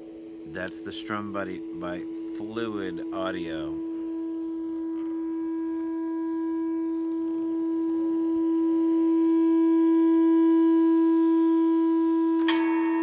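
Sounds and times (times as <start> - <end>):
electric guitar note with feedback: 0.0 - 13.0.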